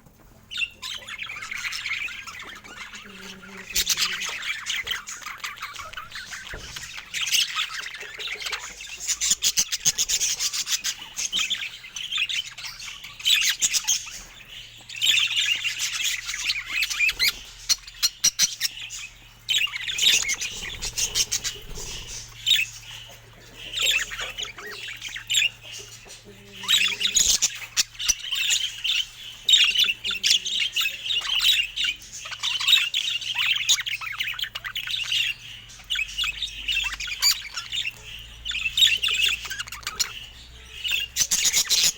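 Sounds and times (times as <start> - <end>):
budgerigars chattering and squawking: 0.0 - 41.9.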